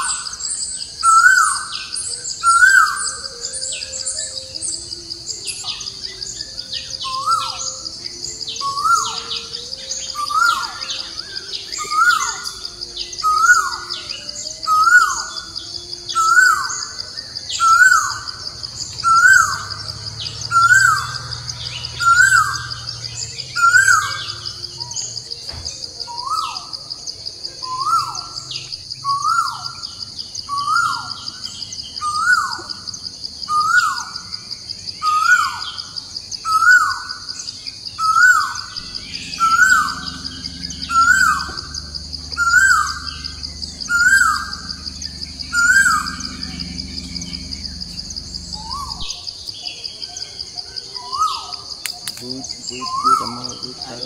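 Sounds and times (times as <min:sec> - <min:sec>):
bird calling: 0:00.0 - 0:26.9, 0:35.0 - 0:54.0
pulsing insect drone: 0:00.0 - 0:54.0.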